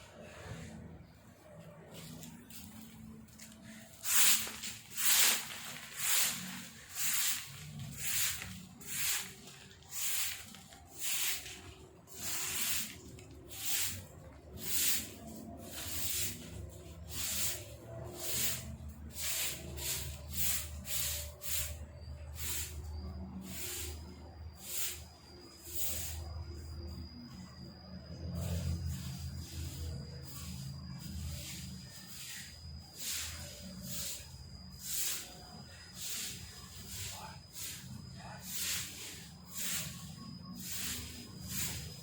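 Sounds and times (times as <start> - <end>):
broom sweeping leaves: 1.8 - 26.6, 28.3 - 42.0.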